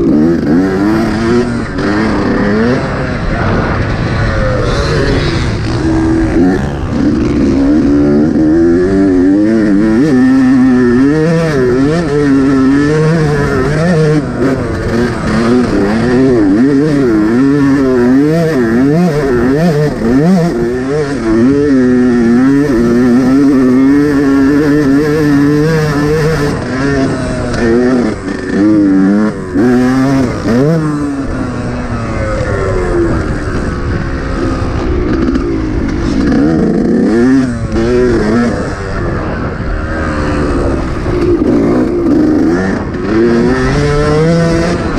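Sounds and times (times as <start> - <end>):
motocross engine revving: 0.0 - 44.9.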